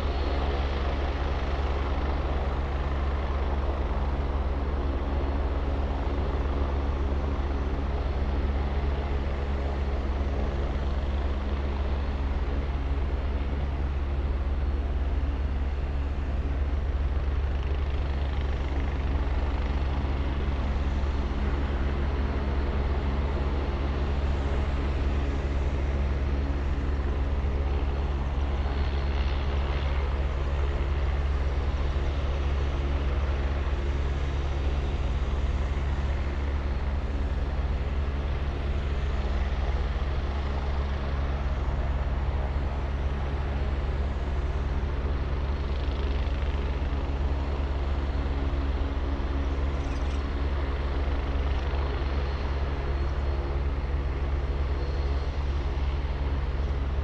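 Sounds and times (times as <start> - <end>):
helicopter rotor drone: 0.0 - 57.0
helicopter turbine whine: 0.0 - 57.0.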